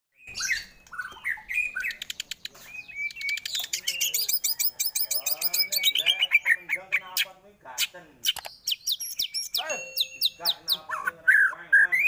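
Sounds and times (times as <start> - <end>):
bird singing: 0.2 - 12.0.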